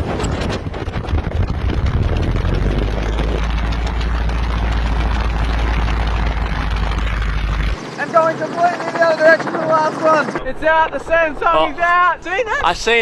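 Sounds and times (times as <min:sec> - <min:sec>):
helicopter rotor and engine: 0:00.0 - 0:12.6.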